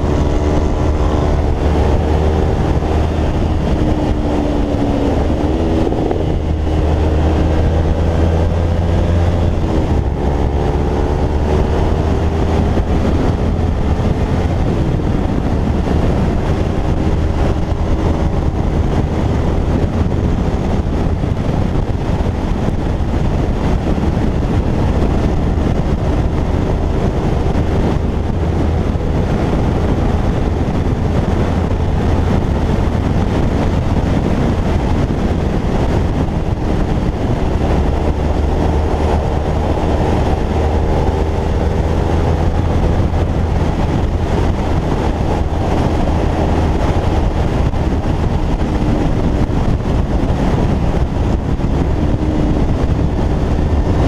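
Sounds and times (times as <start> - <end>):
motorcycle engine: 0.0 - 54.0
road noise roar: 0.0 - 54.0
wind buffeting microphone: 0.0 - 54.0.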